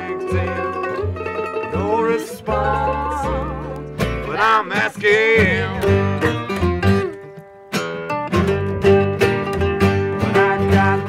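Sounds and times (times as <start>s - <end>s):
acoustic guitar: 0.0s - 11.0s
picked mandolin: 0.0s - 11.0s
plucked upright bass: 0.0s - 11.0s.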